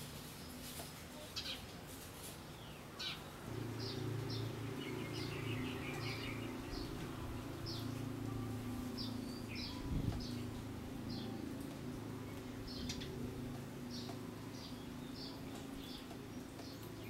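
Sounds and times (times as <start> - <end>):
sparrows chirping: 0.0 - 17.0
steady low hum: 2.4 - 17.0.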